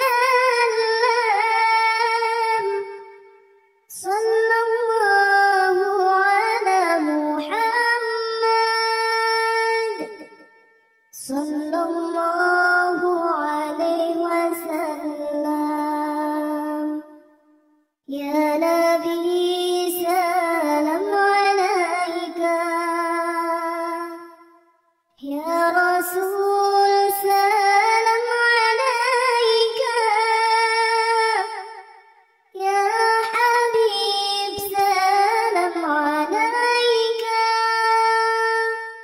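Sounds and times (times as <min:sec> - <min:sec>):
child-like voice singing devotional song: 0:00.0 - 0:03.3, 0:03.9 - 0:10.4, 0:11.2 - 0:17.2, 0:18.1 - 0:24.4, 0:25.2 - 0:39.0.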